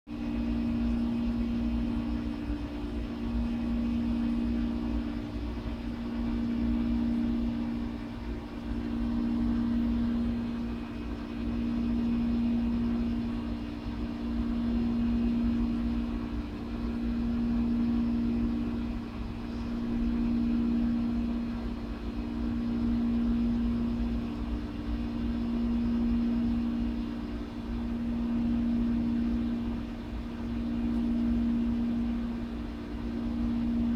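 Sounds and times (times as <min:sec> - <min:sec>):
mechanical hum: 0:00.0 - 0:33.9.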